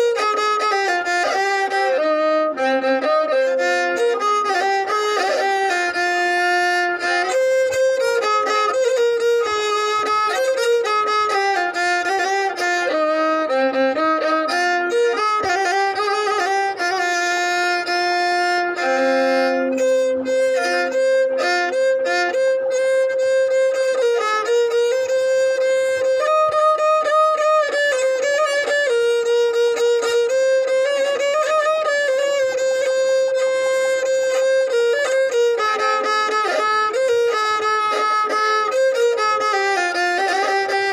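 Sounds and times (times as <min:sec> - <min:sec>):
violin melody: 0:00.0 - 0:40.9.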